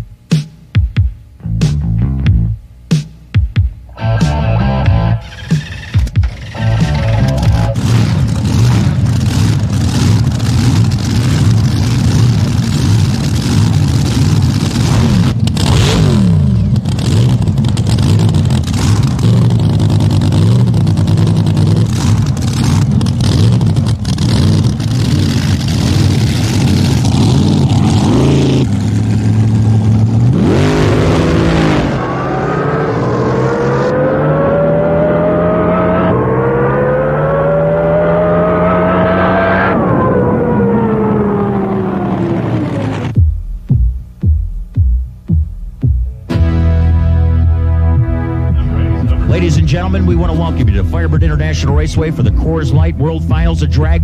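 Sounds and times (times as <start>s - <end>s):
boat engine rumbling and revving: 4.0s - 43.6s, 46.1s - 54.0s.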